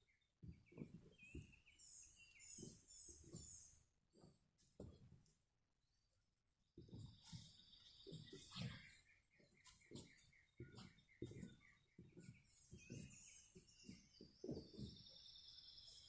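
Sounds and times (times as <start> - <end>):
birds chirping and warbling: 0.0 - 5.1, 6.8 - 16.0.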